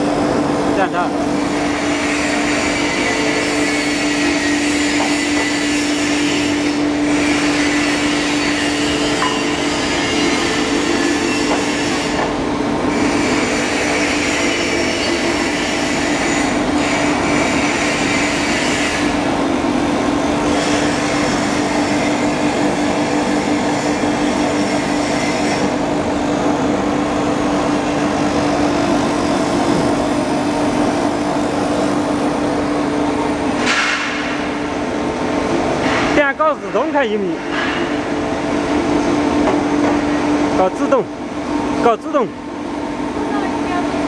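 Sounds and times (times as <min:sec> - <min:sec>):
foam-cutting machine humming: 0:00.0 - 0:44.0.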